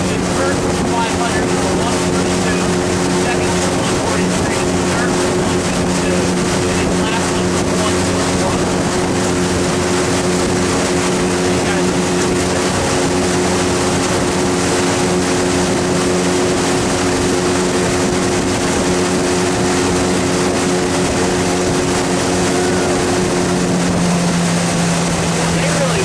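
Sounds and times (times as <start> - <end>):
outboard motor running: 0.0 - 26.0
water and wind hiss: 0.0 - 26.0.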